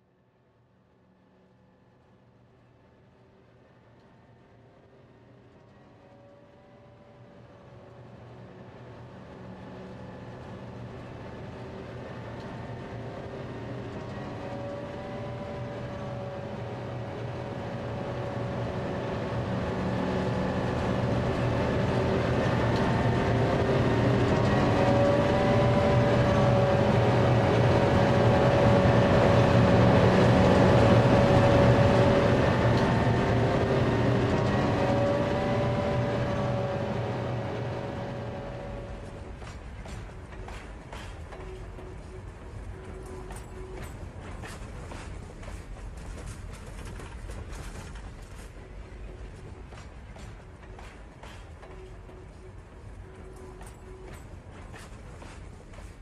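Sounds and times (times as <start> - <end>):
model train running on track: 0.6 - 56.0.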